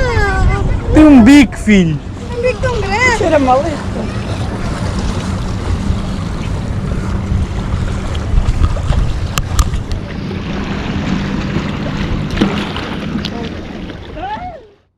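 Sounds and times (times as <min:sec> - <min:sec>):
wind buffeting microphone: 0:00.0 - 0:14.6.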